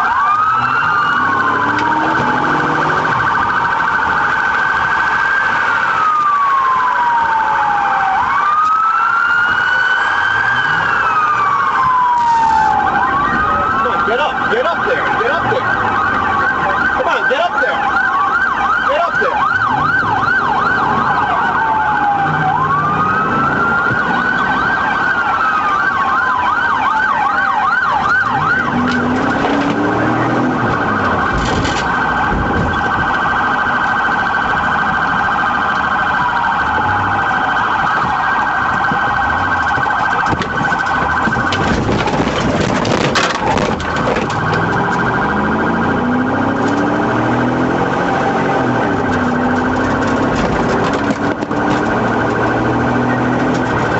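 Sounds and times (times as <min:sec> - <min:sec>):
police siren: 0:00.0 - 0:53.9.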